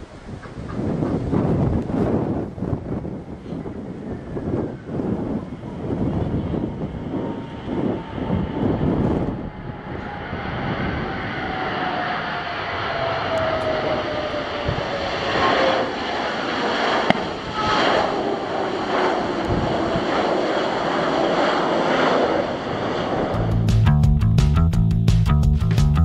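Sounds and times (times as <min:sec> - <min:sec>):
jet engines whining: 0:00.0 - 0:23.8.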